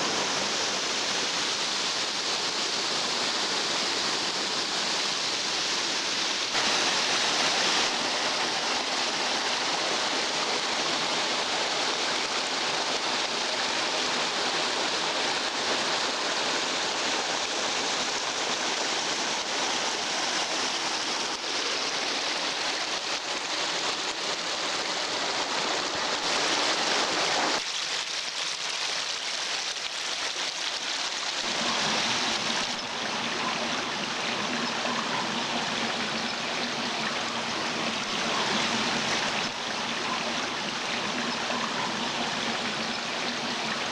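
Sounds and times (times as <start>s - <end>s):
rain and running rainwater: 0.0s - 43.9s.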